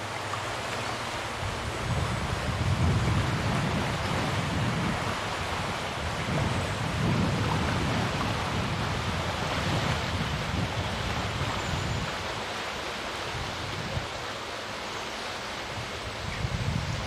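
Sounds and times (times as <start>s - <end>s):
wind buffeting microphone: 1.2s - 12.6s, 13.2s - 14.3s, 15.6s - 17.0s.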